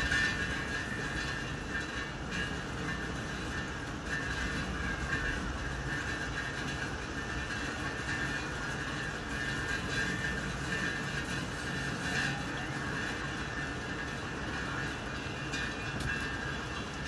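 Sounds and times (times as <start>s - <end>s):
heavy rain: 0.0s - 17.0s
wind through trees: 0.0s - 17.0s.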